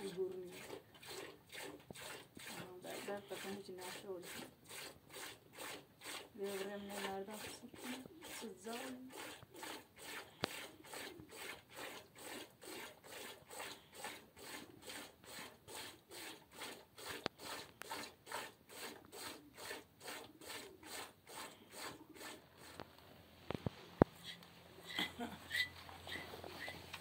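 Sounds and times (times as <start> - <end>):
milk squirting into a bucket: 0.0 - 24.4.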